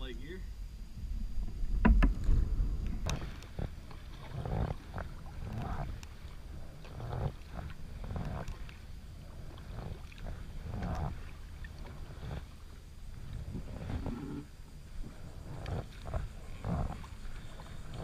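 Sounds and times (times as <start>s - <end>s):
kayak paddle splashing: 1.0s - 18.0s.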